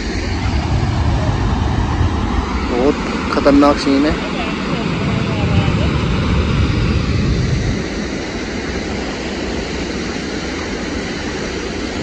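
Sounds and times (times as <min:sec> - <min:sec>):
roar of rushing water: 0:00.0 - 0:12.0.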